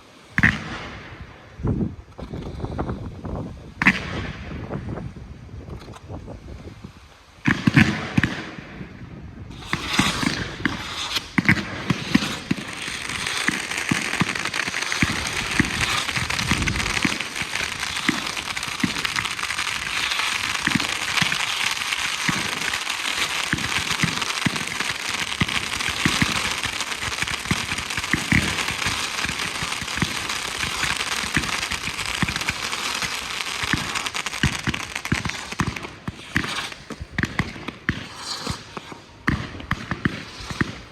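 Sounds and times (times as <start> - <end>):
fireworks crackling: 0.0 - 40.9
loud firework burst: 7.4 - 40.9.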